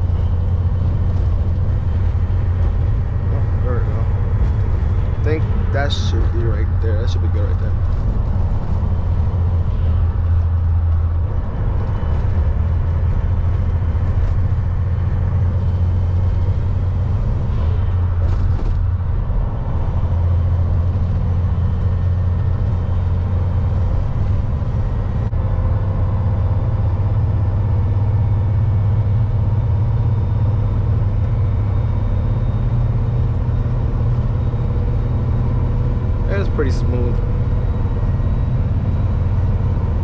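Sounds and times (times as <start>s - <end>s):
truck engine and tyre drone: 0.0s - 40.0s.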